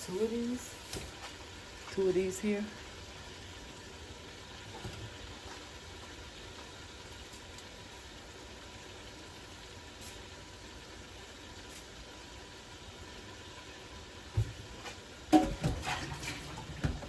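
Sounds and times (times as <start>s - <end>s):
pot boiling: 0.0s - 17.0s.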